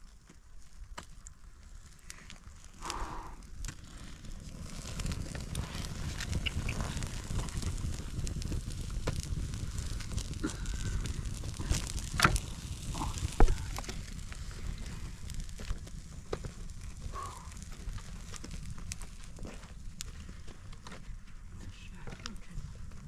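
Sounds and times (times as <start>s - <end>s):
crackles and taps: 0.0s - 23.0s
wind rumbling on microphone: 1.5s - 23.0s.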